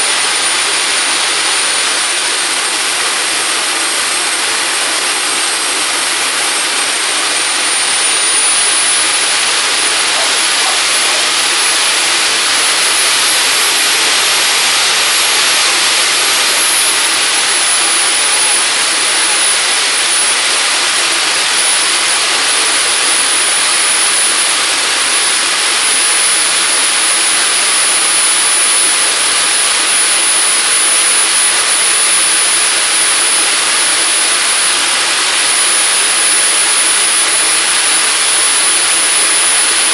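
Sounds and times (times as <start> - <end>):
jet engine rushing hiss and whine: 0.0 - 39.9.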